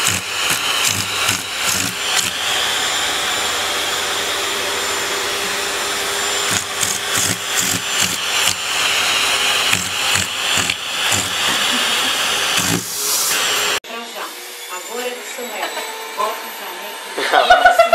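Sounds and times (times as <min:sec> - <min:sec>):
vacuum cleaner motor: 0:00.0 - 0:17.5.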